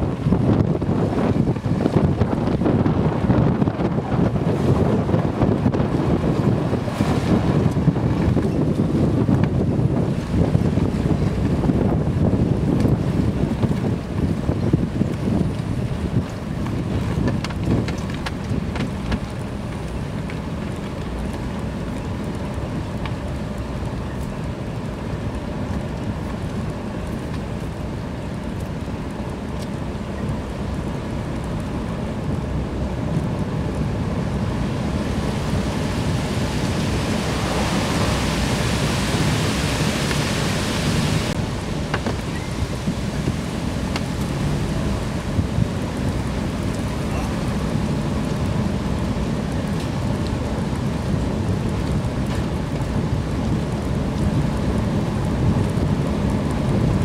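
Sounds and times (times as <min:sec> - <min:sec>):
vehicle driving rumble: 0:00.0 - 0:57.0
wind buffeting microphone: 0:00.0 - 0:57.0.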